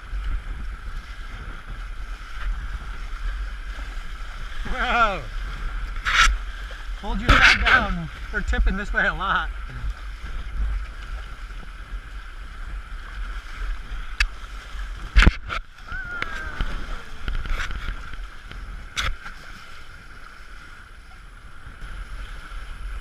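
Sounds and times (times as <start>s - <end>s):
water washing along hull: 0.0s - 23.0s
wind buffeting microphone: 0.0s - 23.0s.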